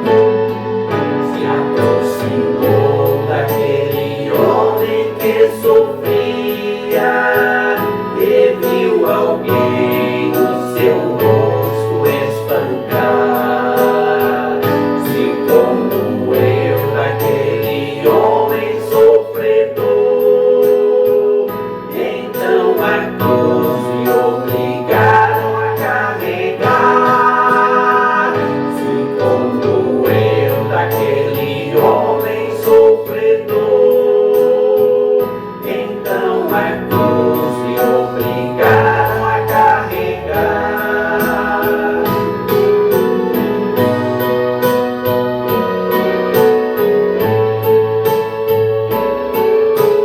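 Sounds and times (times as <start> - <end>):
gospel choir singing: 0.0 - 44.8.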